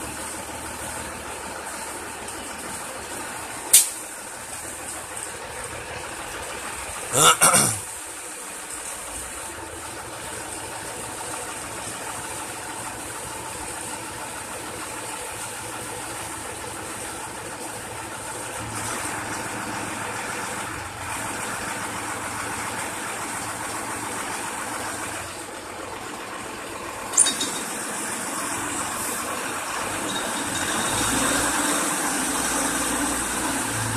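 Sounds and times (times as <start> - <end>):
crane engine running: 0.0 - 33.9.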